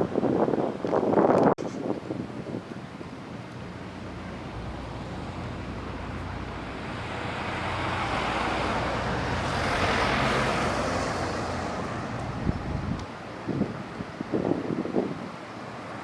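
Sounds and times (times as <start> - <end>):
vehicle engine hum: 0.1 - 16.0
rushing noise of passing vehicle: 2.5 - 16.0.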